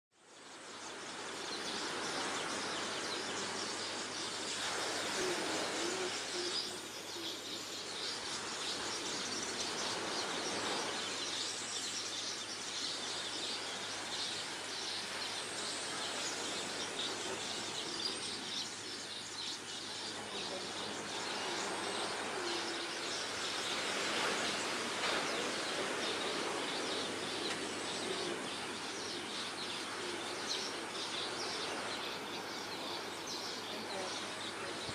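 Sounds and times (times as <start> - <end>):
steady hiss: 0.2 - 34.9
birds calling and chirping: 0.8 - 34.9.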